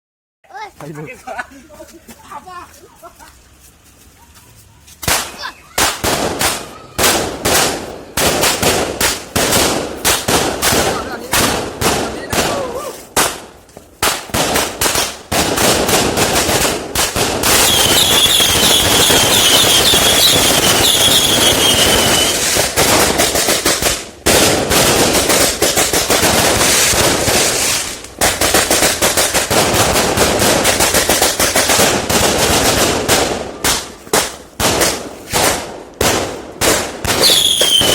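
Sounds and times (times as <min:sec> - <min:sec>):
fireworks crackle: 0:00.8 - 0:37.9
fireworks bangs: 0:05.0 - 0:37.9.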